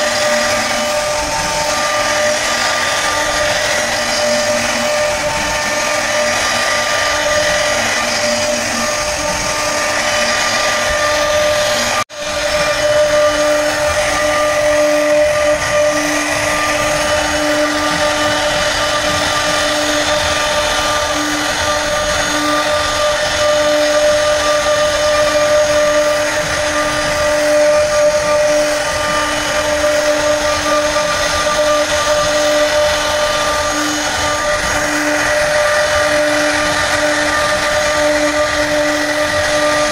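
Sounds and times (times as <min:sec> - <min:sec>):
power tool carving wood: 0:00.0 - 0:39.9.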